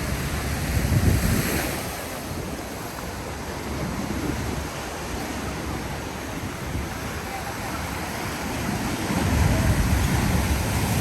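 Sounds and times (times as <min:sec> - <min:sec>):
ocean surf on beach: 0:00.0 - 0:11.0
wind buffeting microphone: 0:00.0 - 0:11.0.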